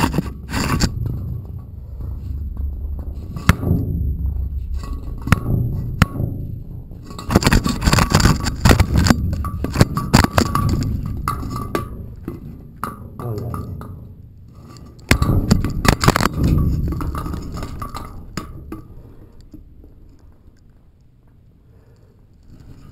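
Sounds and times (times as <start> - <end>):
low rumbling handling noise: 0.0 - 22.9.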